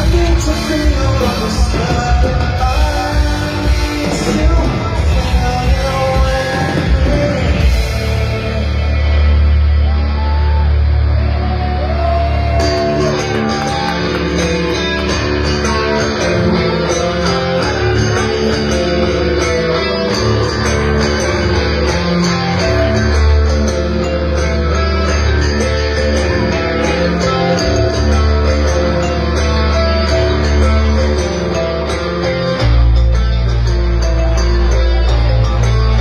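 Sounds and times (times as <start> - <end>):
heavy bass: 0.0 - 36.0.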